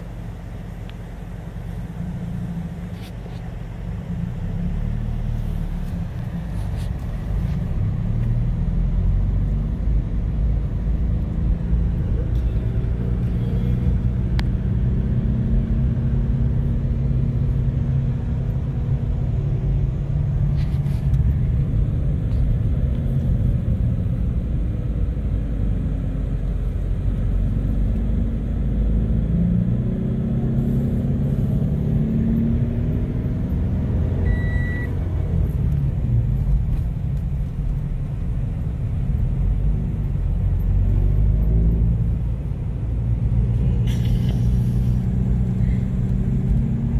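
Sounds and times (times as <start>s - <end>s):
car engine hum: 0.0s - 46.9s
road noise: 0.0s - 46.9s.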